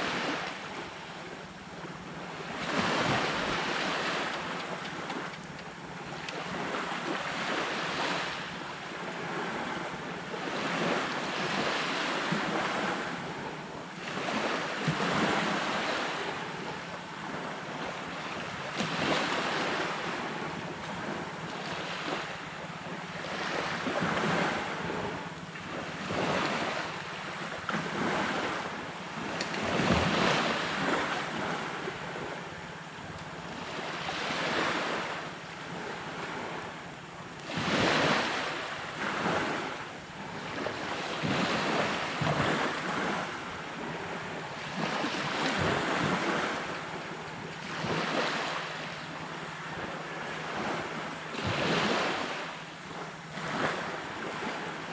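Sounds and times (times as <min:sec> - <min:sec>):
sea waves breaking on beach: 0:00.0 - 0:54.9.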